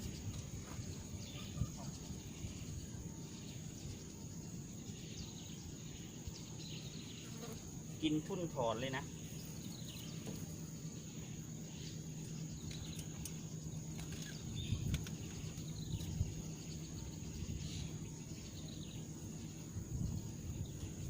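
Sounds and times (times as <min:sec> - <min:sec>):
faint bird chirps: 0:00.0 - 0:21.0
low steady hum: 0:00.0 - 0:21.0.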